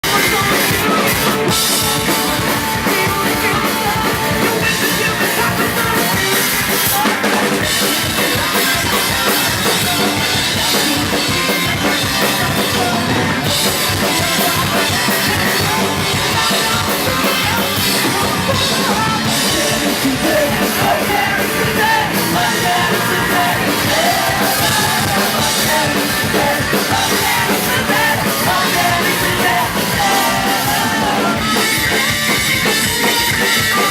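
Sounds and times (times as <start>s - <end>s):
person singing: 0.0s - 33.9s
pounding drum kit: 0.0s - 33.9s
punk rock band playing live: 0.0s - 33.9s.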